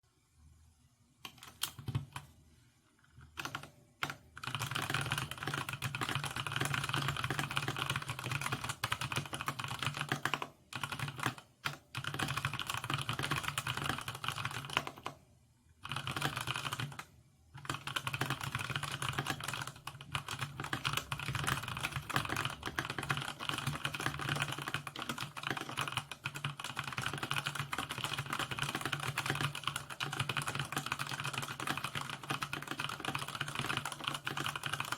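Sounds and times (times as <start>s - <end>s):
mechanical keyboard typing: 1.2s - 2.3s, 3.2s - 15.2s, 15.8s - 34.9s.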